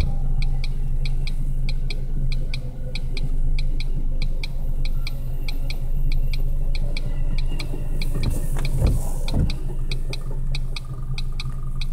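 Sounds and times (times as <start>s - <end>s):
car hum: 0.0s - 11.9s
car indicator ticking: 0.0s - 11.9s.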